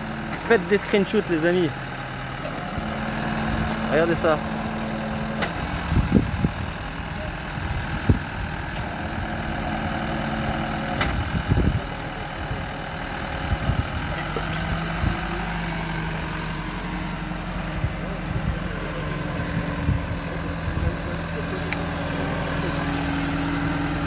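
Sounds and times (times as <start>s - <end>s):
crane lifting: 0.0s - 24.0s
tow truck engine running: 0.0s - 24.0s.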